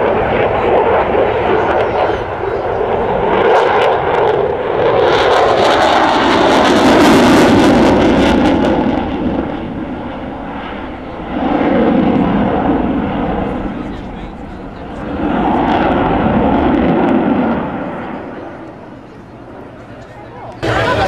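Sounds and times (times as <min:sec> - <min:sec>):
jet roar with crackle: 0:00.0 - 0:21.0.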